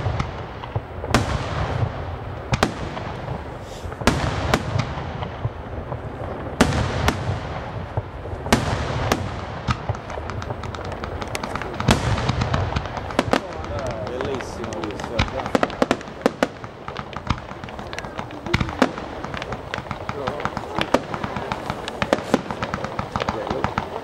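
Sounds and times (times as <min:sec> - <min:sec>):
firework shells bursting: 0:00.0 - 0:24.0
small firework cracks: 0:00.0 - 0:24.0.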